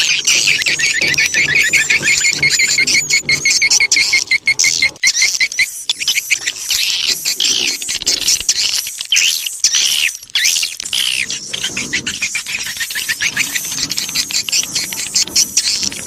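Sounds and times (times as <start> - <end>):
swiftlets chirping and clicking: 0.0 - 16.0.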